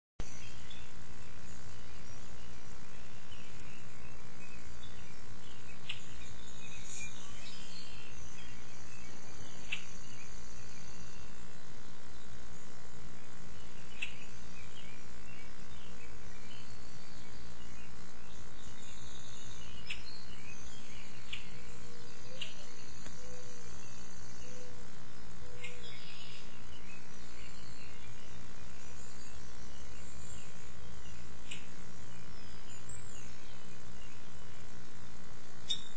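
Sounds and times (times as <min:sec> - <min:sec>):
bird chirps: 0:00.2 - 0:35.0, 0:35.6 - 0:35.9
steady low hum: 0:00.2 - 0:35.9.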